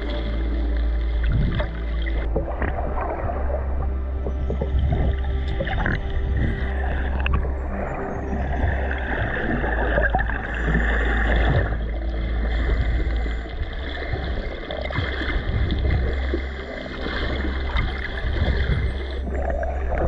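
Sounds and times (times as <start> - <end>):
steady low rumble: 0.0 - 20.0
water swishing and gurgling: 0.0 - 20.0.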